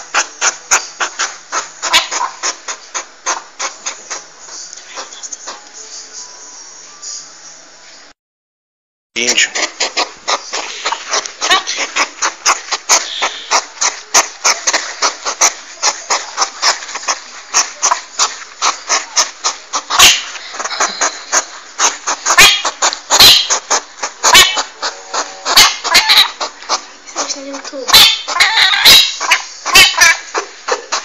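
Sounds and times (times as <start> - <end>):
porcupine clicks and crackles: 0.0 - 5.8, 9.6 - 31.0.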